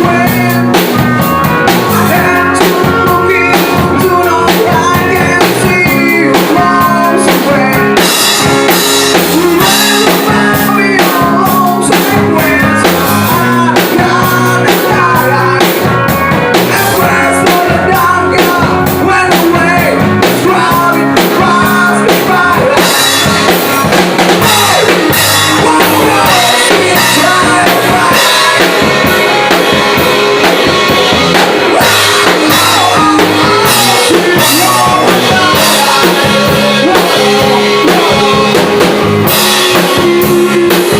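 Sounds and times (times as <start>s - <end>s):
drum kit beat: 0.0s - 40.9s
electric guitar: 0.0s - 40.9s
rock band playing: 0.0s - 40.9s.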